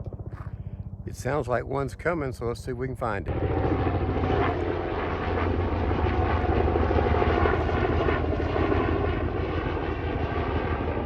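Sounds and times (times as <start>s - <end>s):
helicopter flying over: 0.0s - 11.0s.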